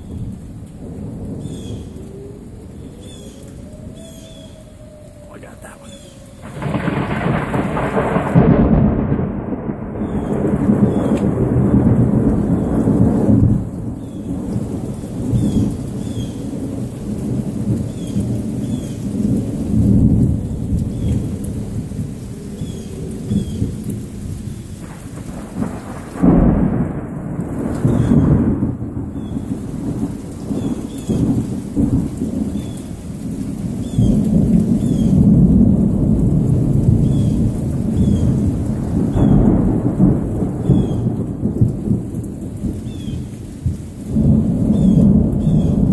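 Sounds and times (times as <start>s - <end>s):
steady rain: 0.0s - 45.9s
thunder rumbling: 0.0s - 45.9s.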